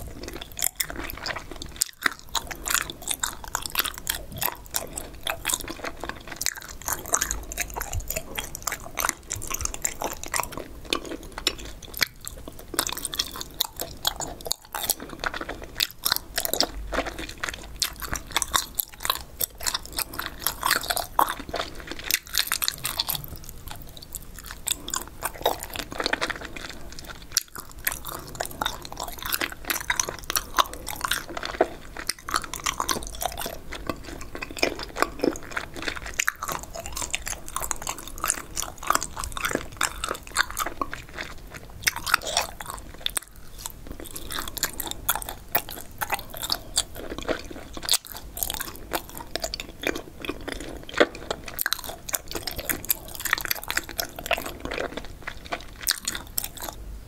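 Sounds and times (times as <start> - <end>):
crunchy chewing: 0.0 - 56.8.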